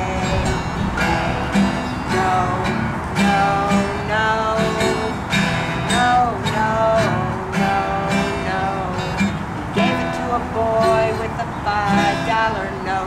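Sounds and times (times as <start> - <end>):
woman singing: 0.0 - 5.2, 5.9 - 13.0
acoustic guitar strumming: 0.0 - 13.0.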